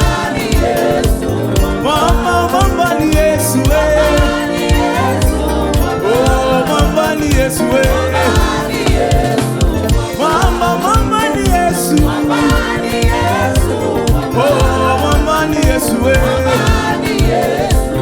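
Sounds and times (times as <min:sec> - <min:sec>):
band with heavy bass: 0:00.0 - 0:18.0
voices singing gospel melody: 0:00.0 - 0:18.0.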